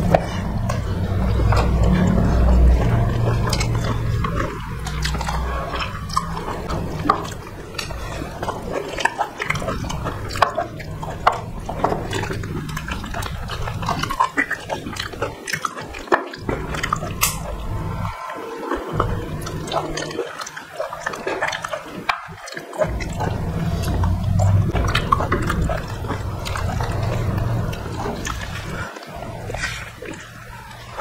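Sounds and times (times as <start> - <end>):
chewing with lip smacks: 0.0 - 31.0
wet squelching of food: 0.0 - 31.0.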